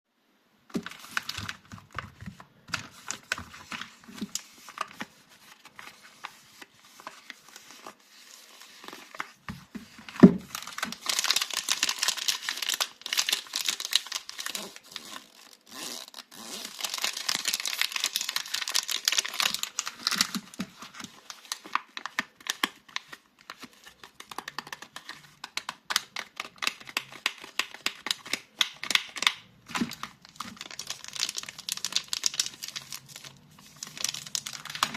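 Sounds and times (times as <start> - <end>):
packaging crinkling and tearing: 0.7 - 34.9.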